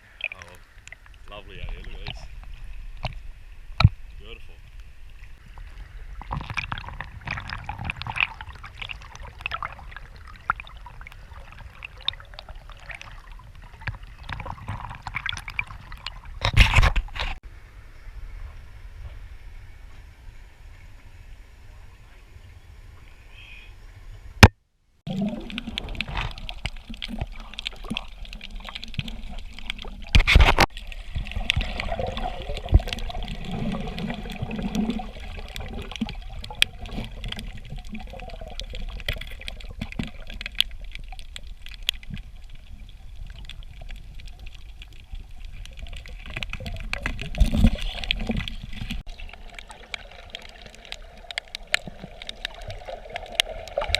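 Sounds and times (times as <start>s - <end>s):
water sloshing and gurgling: 0.0s - 17.4s, 23.8s - 53.9s.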